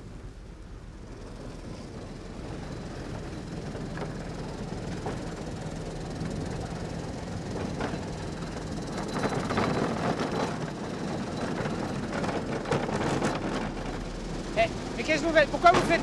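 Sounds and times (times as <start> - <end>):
low engine hum: 0.0 - 16.0
wheels clacking on rails: 0.6 - 16.0.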